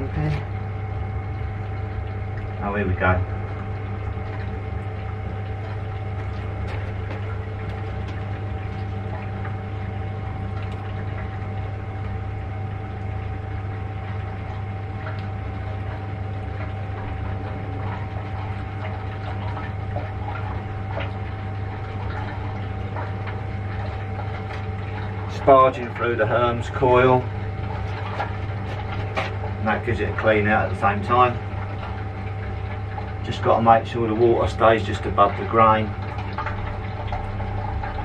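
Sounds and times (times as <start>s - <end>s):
pumps humming with faint whine: 0.0s - 38.0s
water trickling and splashing: 0.0s - 38.0s.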